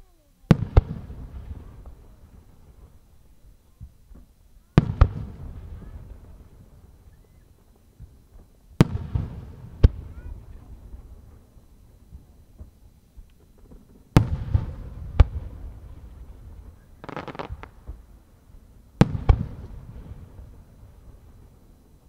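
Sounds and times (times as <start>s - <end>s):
firework booms: 0.4s - 22.0s.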